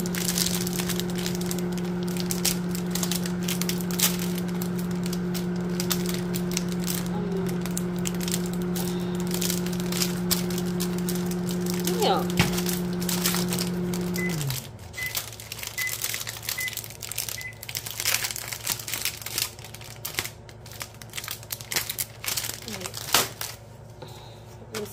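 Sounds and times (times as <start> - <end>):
plastic wrap crinkling: 0.0 - 23.9
microwave oven humming: 0.0 - 24.9.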